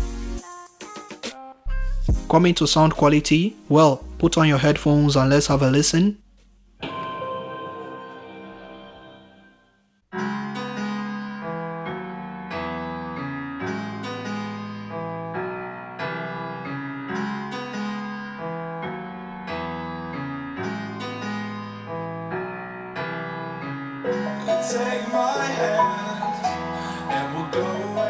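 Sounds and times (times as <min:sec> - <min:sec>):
piano music through speaker: 0:01.5 - 0:06.2, 0:10.2 - 0:28.0.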